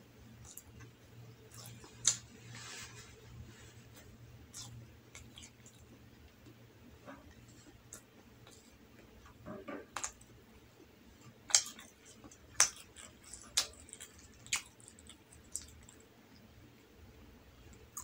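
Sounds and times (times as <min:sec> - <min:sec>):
person chewing food: 0:00.3 - 0:10.4, 0:11.2 - 0:16.5, 0:17.7 - 0:18.0.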